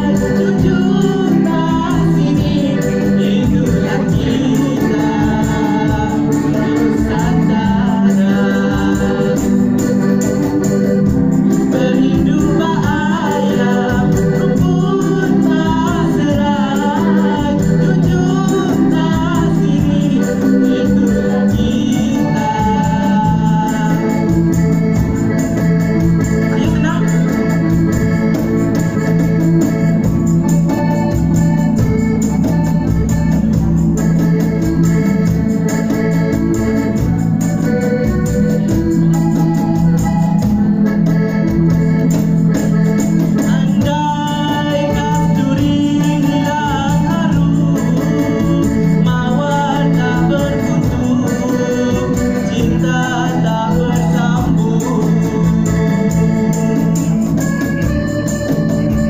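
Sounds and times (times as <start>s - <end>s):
electronic organ keyboard: 0.0s - 59.0s.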